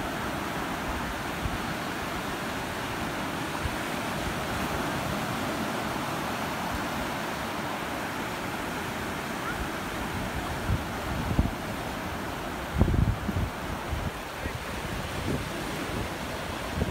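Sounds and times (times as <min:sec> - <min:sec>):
ocean surf breaking: 0:00.0 - 0:16.9.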